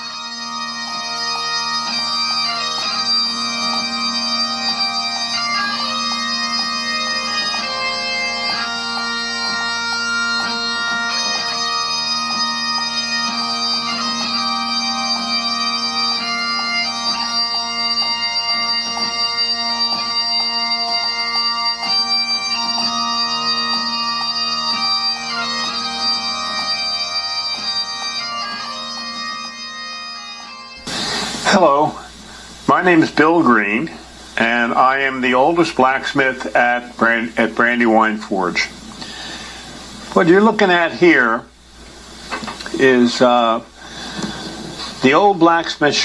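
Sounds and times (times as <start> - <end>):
melody of held notes: 0.0 - 41.6.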